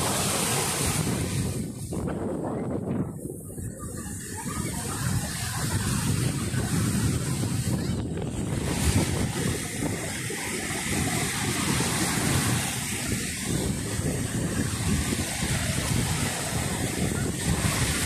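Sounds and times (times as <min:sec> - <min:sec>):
small waves breaking on sand: 0:00.0 - 0:03.0, 0:04.0 - 0:18.0
wind buffeting microphone: 0:00.0 - 0:18.0.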